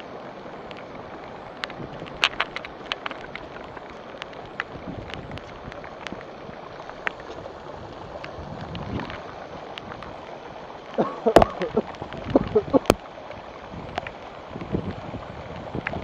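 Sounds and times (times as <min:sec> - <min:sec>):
rain pouring on a street: 0:00.0 - 0:16.0.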